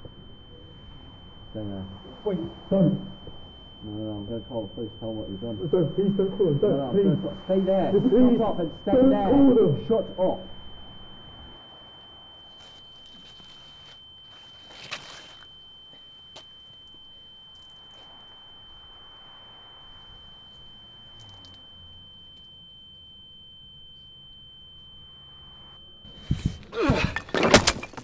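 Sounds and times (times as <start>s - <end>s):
high-pitched ringing tone: 0.0s - 28.0s.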